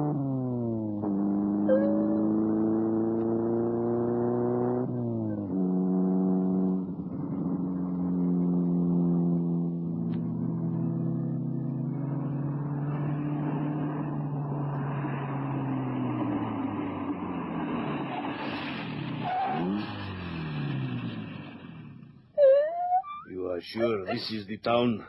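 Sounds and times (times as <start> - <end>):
car engine running and revving: 0.0 - 22.3
road noise: 0.0 - 25.0.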